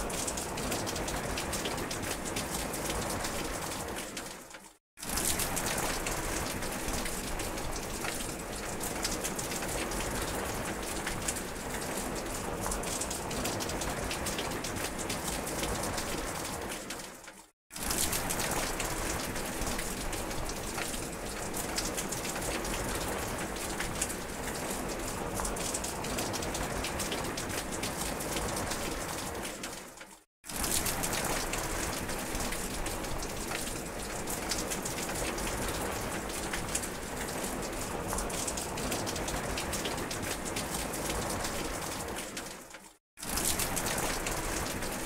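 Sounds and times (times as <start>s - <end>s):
heavy rain on foliage: 0.0s - 45.0s.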